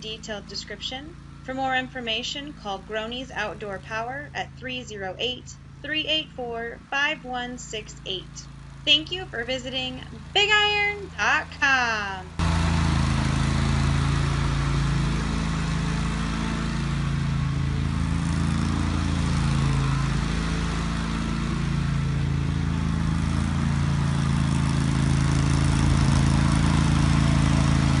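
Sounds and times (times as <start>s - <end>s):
riding lawn mower engine running: 0.0s - 28.0s.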